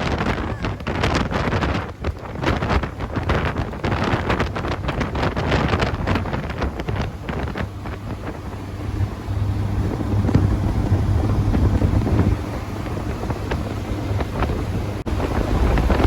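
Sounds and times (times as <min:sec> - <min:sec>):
wind buffeting microphone: 0:00.0 - 0:16.0
car engine humming: 0:00.6 - 0:16.0.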